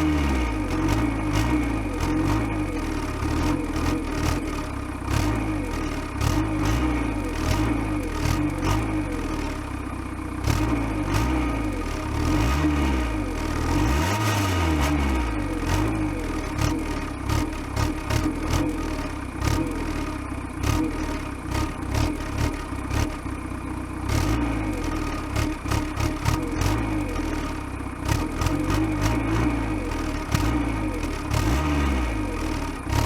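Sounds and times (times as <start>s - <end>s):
diesel car exhaust running: 0.0s - 33.0s.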